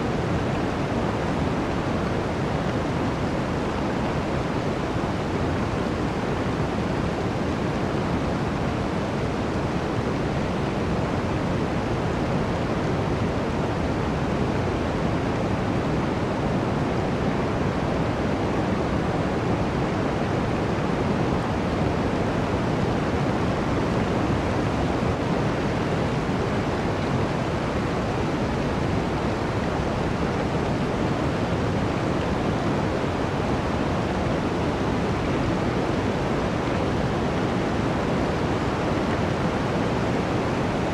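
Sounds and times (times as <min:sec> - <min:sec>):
blizzard wind rushing: 0:00.0 - 0:40.9.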